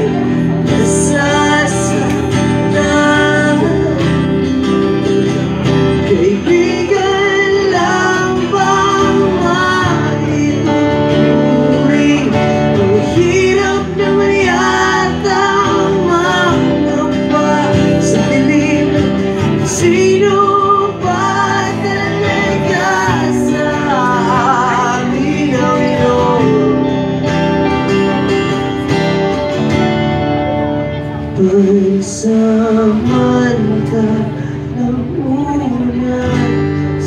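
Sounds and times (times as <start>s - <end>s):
man singing: 0.0s - 28.5s, 31.2s - 37.0s
live rock band: 0.0s - 37.0s.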